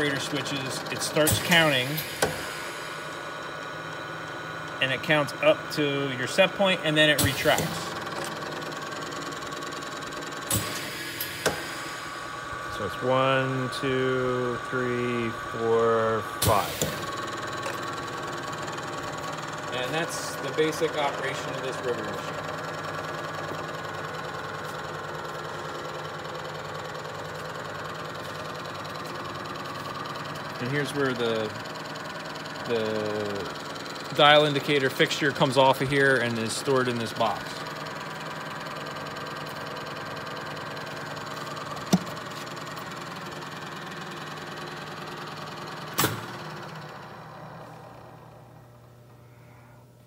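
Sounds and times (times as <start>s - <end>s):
riveter motor humming: 0.0s - 50.0s.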